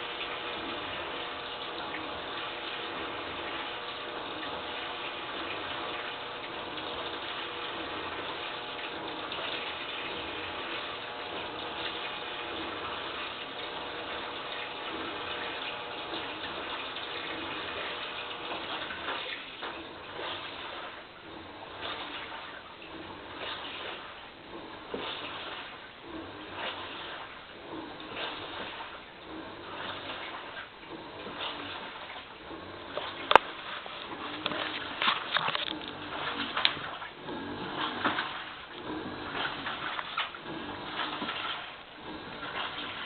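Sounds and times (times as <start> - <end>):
washing machine running: 0.0 - 43.0
water rushing: 0.0 - 43.0.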